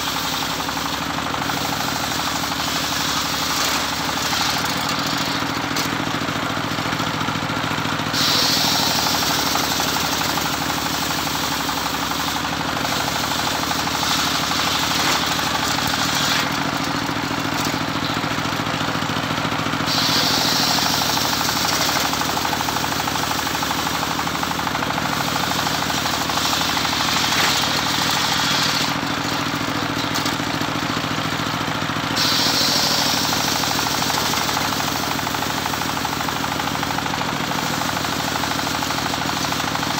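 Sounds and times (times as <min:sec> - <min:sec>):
saw blade cutting wood: 0:00.0 - 0:06.4, 0:08.1 - 0:19.1, 0:19.8 - 0:31.4, 0:32.1 - 0:39.7
circular saw running: 0:00.0 - 0:39.9.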